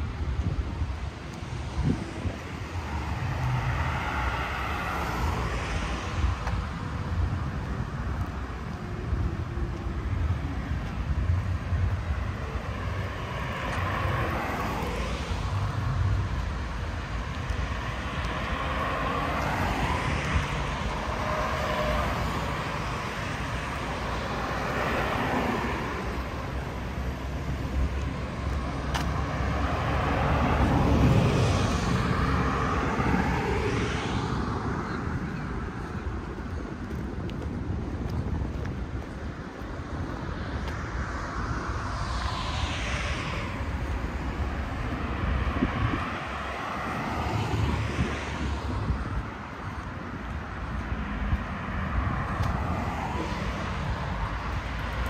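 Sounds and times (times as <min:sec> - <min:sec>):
cars passing: 0:00.0 - 0:55.0
low traffic rumble: 0:00.0 - 0:55.0.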